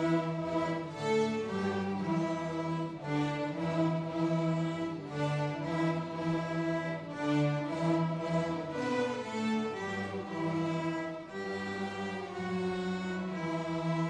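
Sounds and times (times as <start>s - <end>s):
string orchestra playing: 0.0s - 14.0s.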